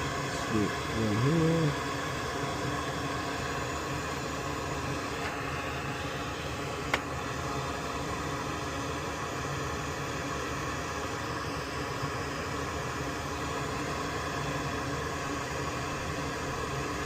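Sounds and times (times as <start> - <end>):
fan-like hiss: 0.0 - 17.0.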